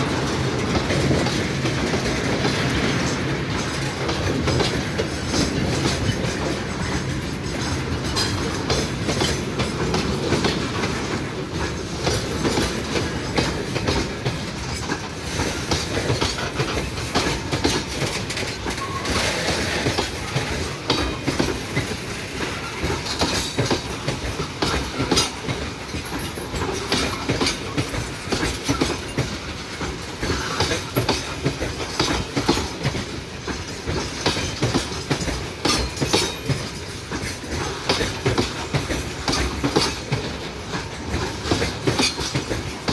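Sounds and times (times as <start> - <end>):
train wheels clacking on rails: 0.0 - 42.9.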